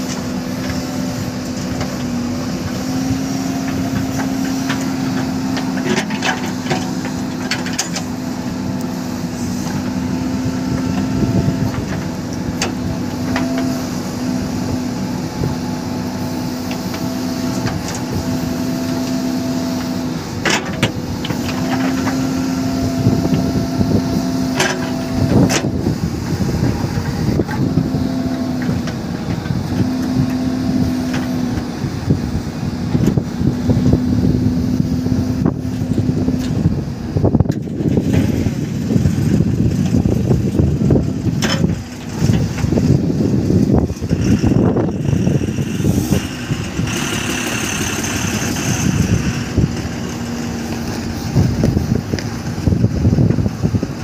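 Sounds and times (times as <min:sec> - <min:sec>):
backhoe diesel engine under load: 0:00.0 - 0:54.0.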